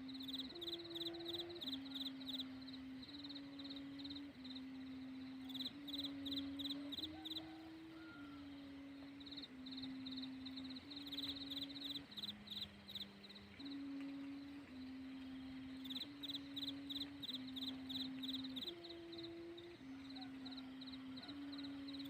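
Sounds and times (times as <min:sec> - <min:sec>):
kite hummer droning: 0:00.0 - 0:22.0.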